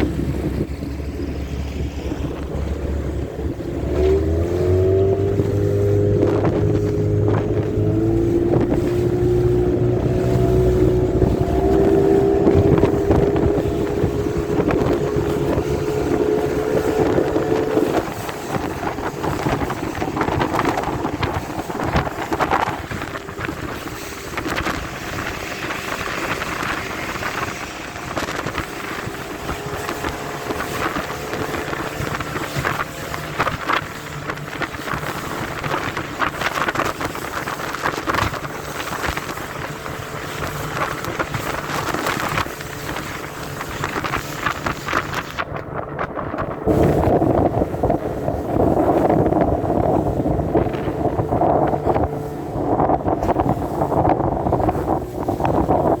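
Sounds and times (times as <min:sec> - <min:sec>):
outboard motor running: 0:00.0 - 0:56.0
waves splashing against hull: 0:00.0 - 0:56.0
wind buffeting microphone: 0:00.0 - 0:56.0.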